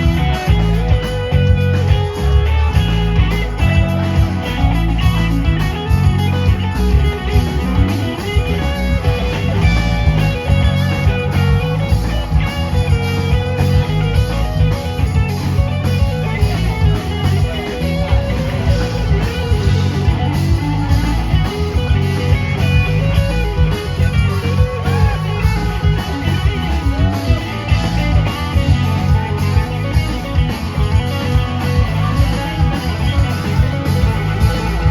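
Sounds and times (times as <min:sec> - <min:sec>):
electric guitar lines: 0:00.0 - 0:34.9
live rock band playing: 0:00.0 - 0:34.9.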